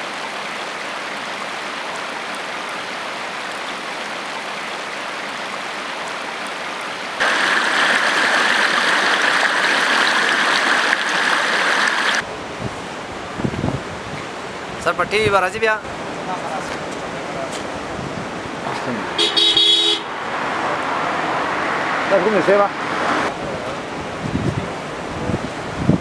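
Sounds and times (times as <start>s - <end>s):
stream water rushing and splashing: 0.0s - 15.0s, 15.6s - 26.0s.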